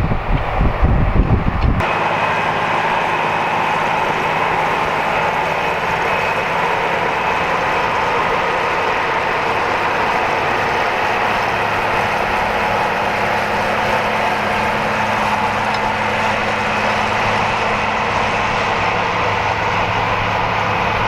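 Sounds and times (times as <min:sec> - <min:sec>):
tractor engine drone with whine: 0:00.0 - 0:21.0
wind buffeting microphone: 0:00.0 - 0:21.0.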